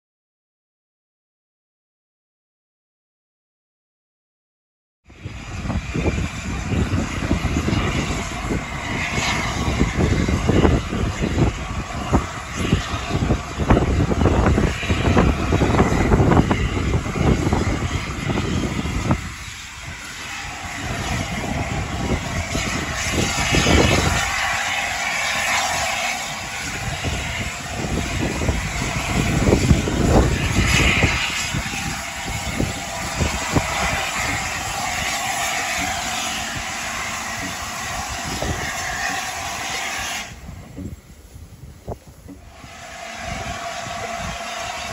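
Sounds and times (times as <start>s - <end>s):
steam locomotive exhaust rumble: 5.1s - 44.9s
steam hissing: 5.2s - 44.9s.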